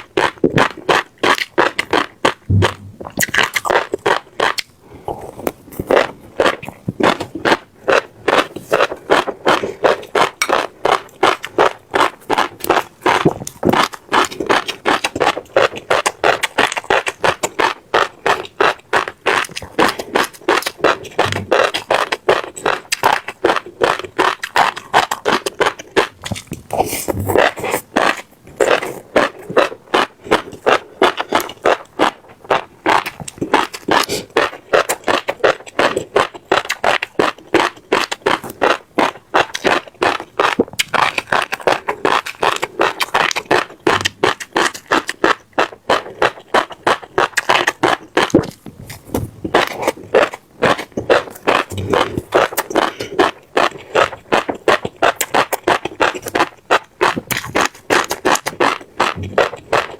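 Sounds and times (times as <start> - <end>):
chewing crunchy seeds: 0.0 - 59.9.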